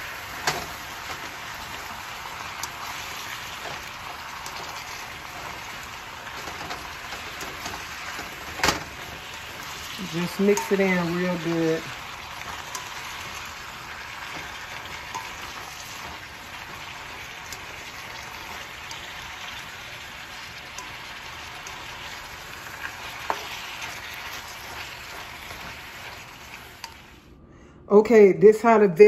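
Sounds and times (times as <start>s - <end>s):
noodles sizzling in wok: 0.0s - 27.3s.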